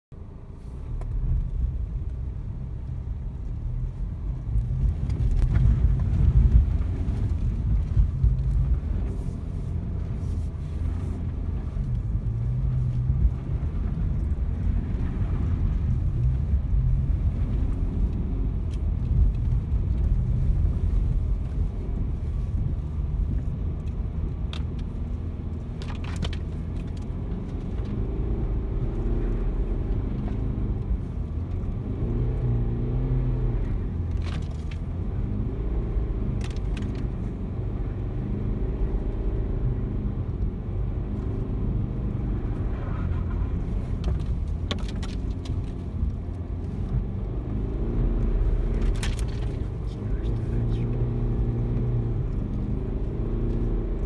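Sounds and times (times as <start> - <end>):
diesel car engine rumble: 0.0 - 54.0.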